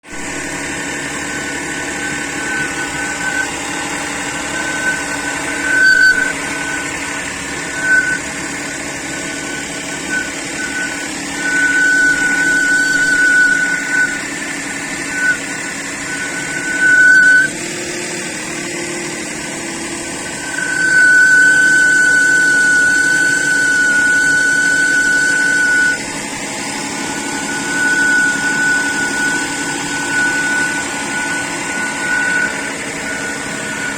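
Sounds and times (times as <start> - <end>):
engine running: 0.0 - 33.9
high steady whistle: 0.0 - 33.9.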